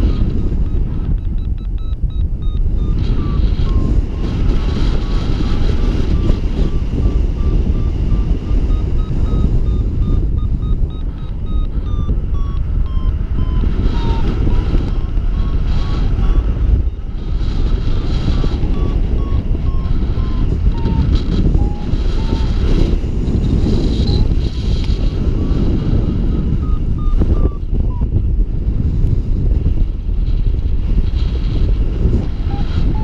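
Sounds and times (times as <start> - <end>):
variometer short beeps: 0.0 - 28.3, 32.5 - 33.0
wind rush on microphone: 0.0 - 33.0.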